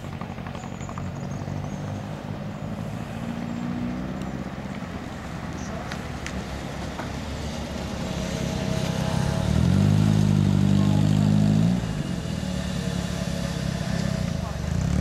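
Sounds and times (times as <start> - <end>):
car engine pulling away: 0.0 - 15.0.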